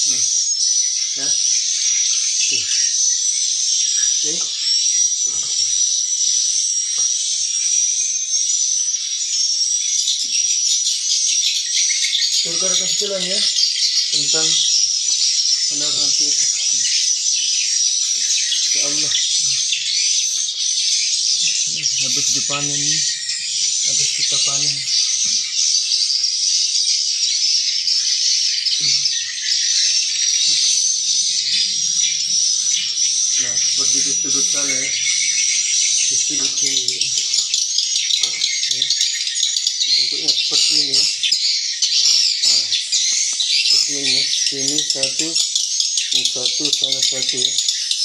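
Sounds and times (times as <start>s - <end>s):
high-pitched bird chirping chatter: 0.0s - 48.0s.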